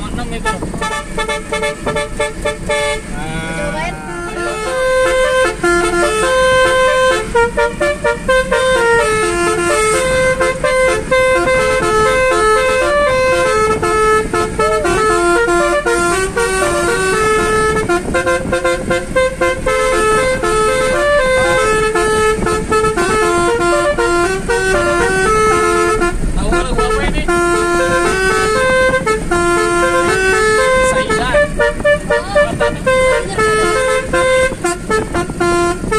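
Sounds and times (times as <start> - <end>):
musical air horn tune: 0.4 - 35.9.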